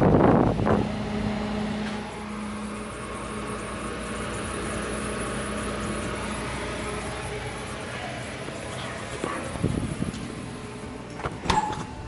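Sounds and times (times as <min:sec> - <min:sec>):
refrigerator humming: 0:00.0 - 0:12.0.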